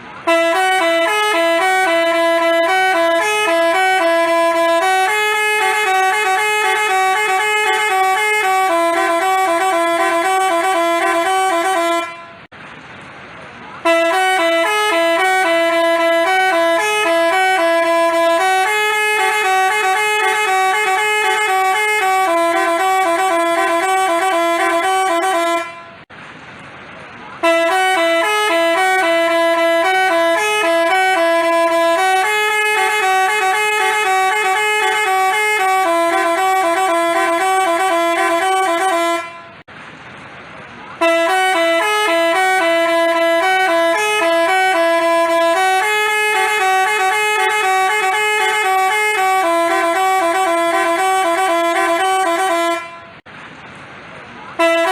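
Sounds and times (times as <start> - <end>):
horn playing short tune: 0.3 - 12.4, 13.8 - 26.0, 27.4 - 39.6, 41.0 - 53.2, 54.6 - 54.9.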